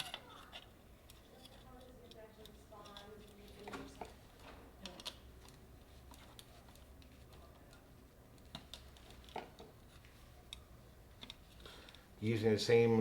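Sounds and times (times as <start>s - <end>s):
small clicks and taps: 0.0s - 12.0s.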